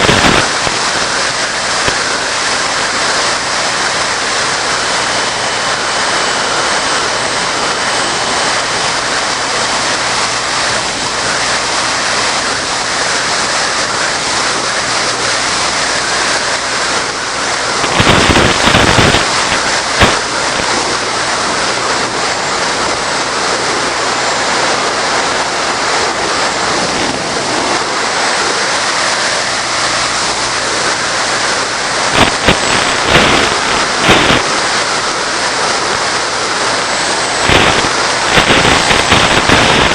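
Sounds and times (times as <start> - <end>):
loud crackling bursts: 0.0 - 39.9
steady rushing hiss: 0.0 - 39.9.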